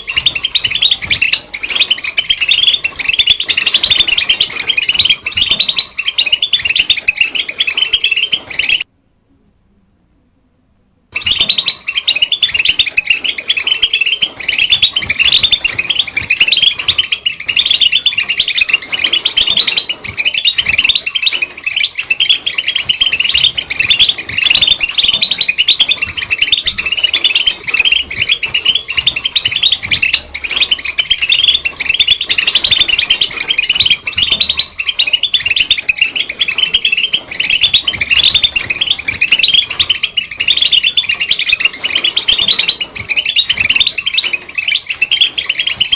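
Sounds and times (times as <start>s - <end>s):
finch singing: 0.0s - 8.9s, 11.1s - 45.9s.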